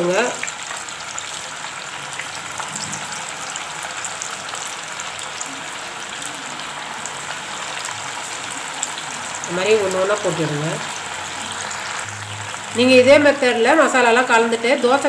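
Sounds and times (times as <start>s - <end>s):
chicken deep-frying in hot oil: 0.0s - 15.0s.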